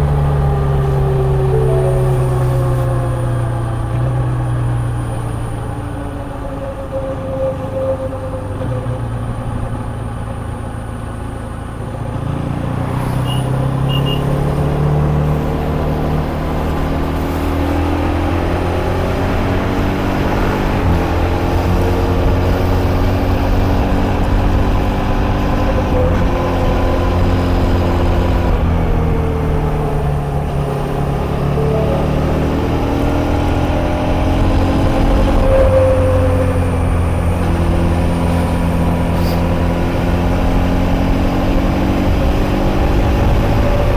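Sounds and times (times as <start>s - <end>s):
motorcycle engine accelerating: 8.3s - 43.9s.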